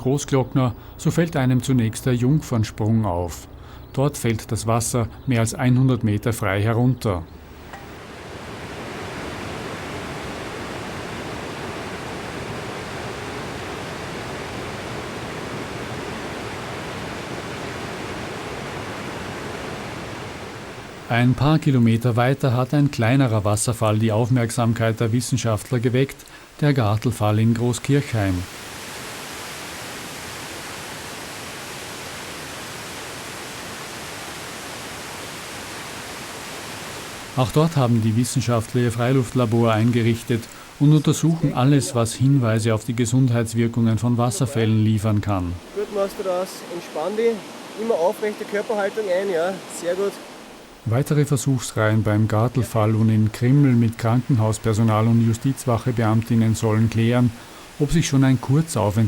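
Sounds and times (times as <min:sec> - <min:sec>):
waterfall rushing: 0:07.5 - 0:22.0, 0:24.8 - 0:59.0.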